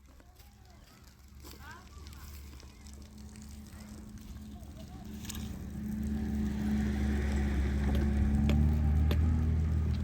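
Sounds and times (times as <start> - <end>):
engine running with low hum: 1.7 - 10.0.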